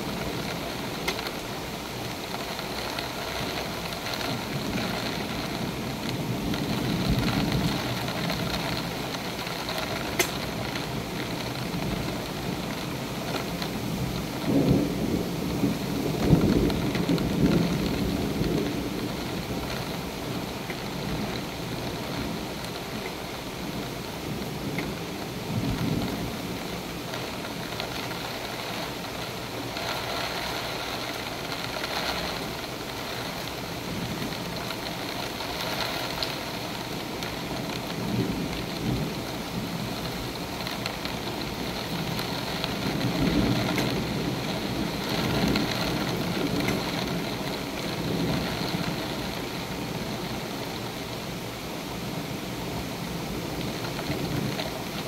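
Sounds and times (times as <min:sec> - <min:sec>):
thunder rumbling: 0:00.0 - 0:50.9
steady rain: 0:00.0 - 0:55.0.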